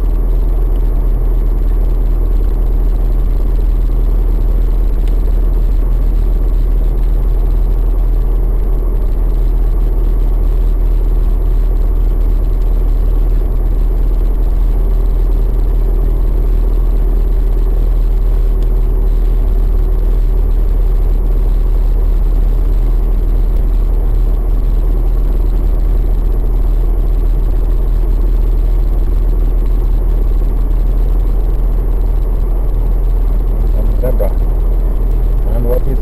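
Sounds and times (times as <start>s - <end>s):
car interior road noise: 0.0s - 36.0s.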